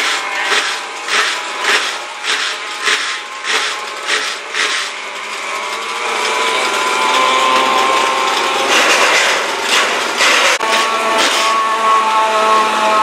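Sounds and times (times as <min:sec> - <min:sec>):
rhythmic rasping: 0:00.0 - 0:12.1
race car engines running: 0:00.0 - 0:13.0.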